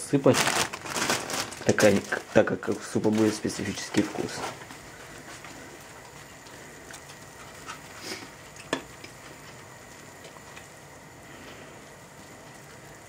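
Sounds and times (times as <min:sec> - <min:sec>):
soup simmering with low hiss: 0:00.0 - 0:13.0.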